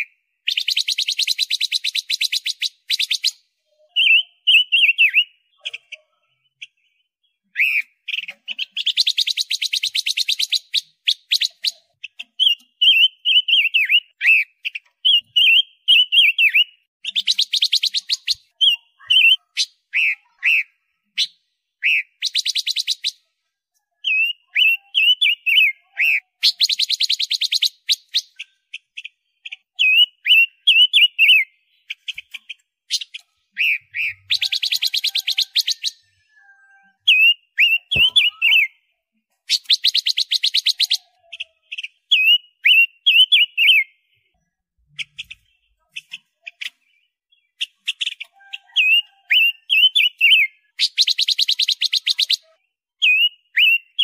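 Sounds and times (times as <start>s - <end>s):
bird singing warbled whistles: 0.0s - 5.4s, 7.4s - 23.2s, 24.0s - 29.1s, 29.8s - 32.1s, 32.9s - 36.2s, 37.0s - 38.8s, 39.5s - 44.0s, 47.6s - 54.0s.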